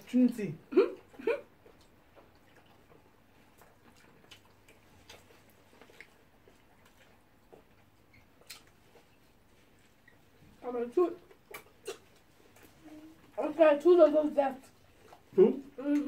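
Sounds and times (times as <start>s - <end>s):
quiet chewing: 0.7s - 16.0s.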